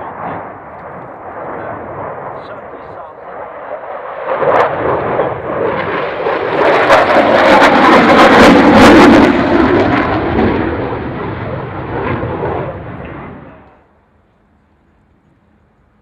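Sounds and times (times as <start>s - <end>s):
loud crackling jet noise: 0.0s - 13.9s.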